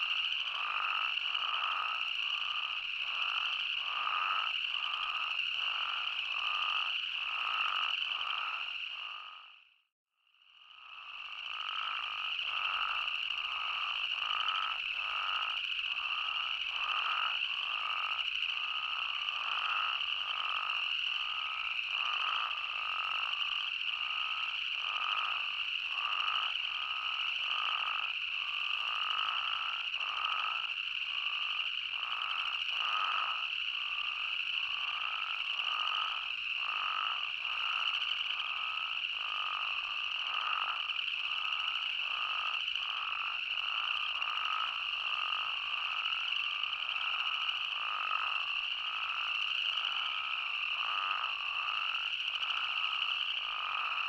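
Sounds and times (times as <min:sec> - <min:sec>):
toads calling in chorus: 0:00.0 - 0:09.5, 0:11.0 - 0:54.0.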